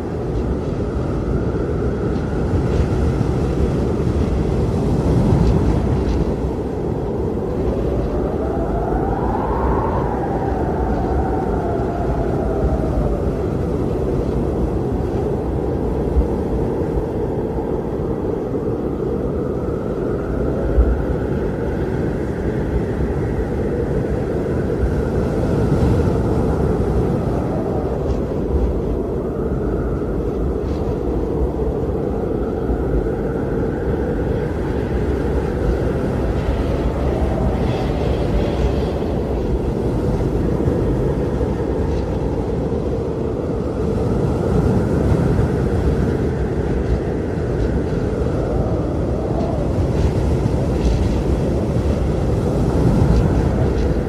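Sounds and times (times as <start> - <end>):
blizzard wind howling: 0.0 - 54.0.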